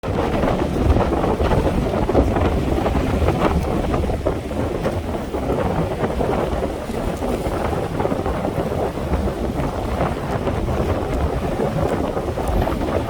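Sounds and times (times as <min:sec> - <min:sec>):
wind buffeting microphone: 0:00.0 - 0:13.0
waves washing on rocky shore: 0:00.1 - 0:13.0.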